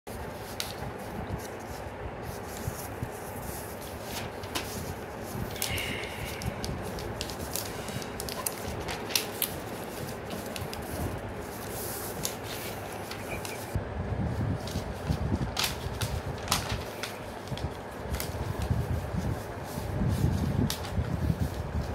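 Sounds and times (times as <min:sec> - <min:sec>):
paper rustling and folding: 0:00.1 - 0:21.9.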